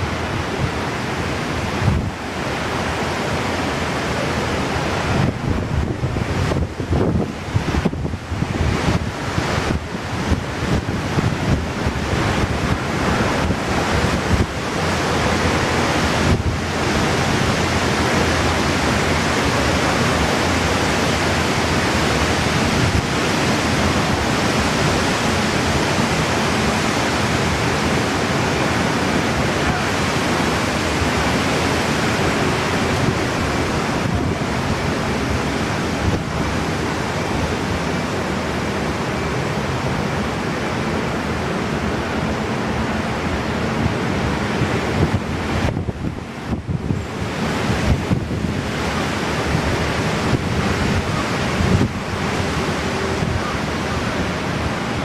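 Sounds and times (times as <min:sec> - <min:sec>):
strong wind on microphone: 0:00.0 - 0:55.0.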